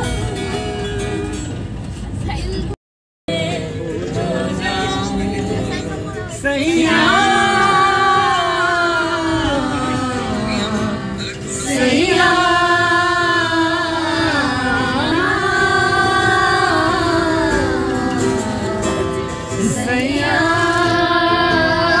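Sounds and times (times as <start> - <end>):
acoustic guitar: 0.0 - 22.0
group singing together: 3.3 - 22.0.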